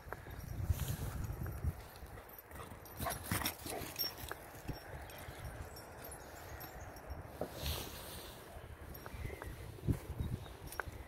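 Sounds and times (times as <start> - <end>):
faint wind rumble on microphone: 0.0 - 3.3, 4.6 - 11.0.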